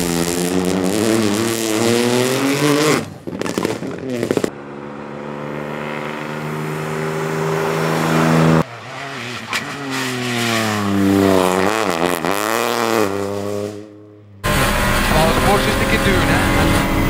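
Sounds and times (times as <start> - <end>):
rally car engine accelerating hard: 0.0 - 17.0.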